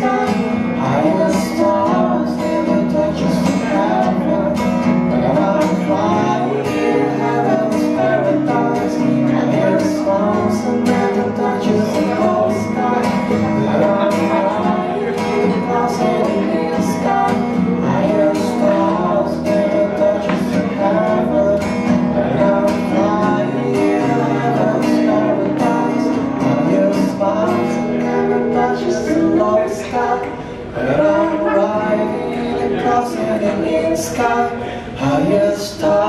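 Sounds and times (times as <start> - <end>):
acoustic guitars strummed and picked: 0.0 - 36.0
person singing: 0.0 - 36.0.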